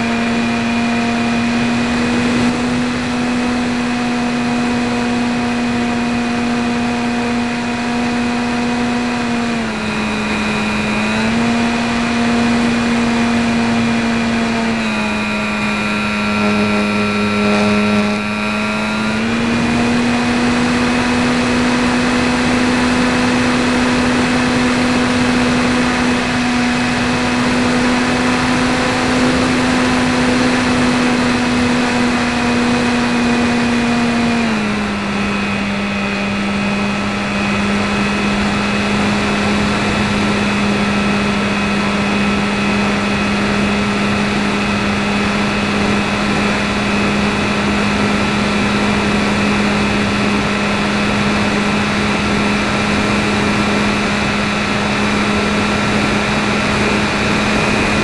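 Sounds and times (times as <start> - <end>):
electric motor buzzing drone: 0.0 - 58.0.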